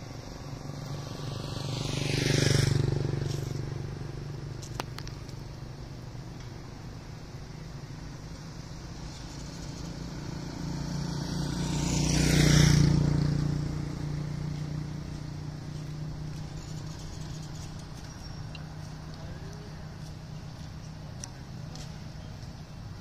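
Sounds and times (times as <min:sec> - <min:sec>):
vehicle driving past: 0:00.0 - 0:04.6, 0:05.4 - 0:22.8.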